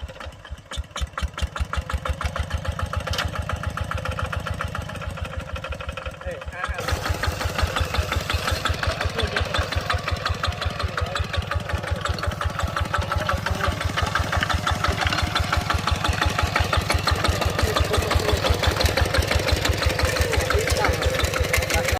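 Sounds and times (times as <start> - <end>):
engine chugging: 0.0 - 21.9.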